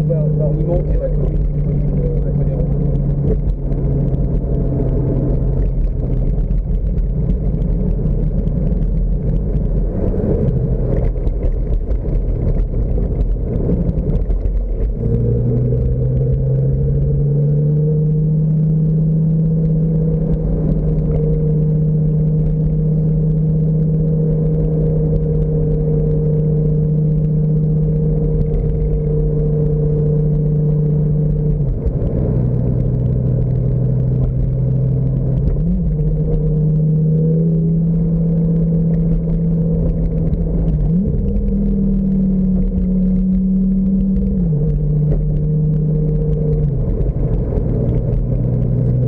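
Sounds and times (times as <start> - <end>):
car engine cruising: 0.0 - 49.0
low rumble: 0.0 - 49.0.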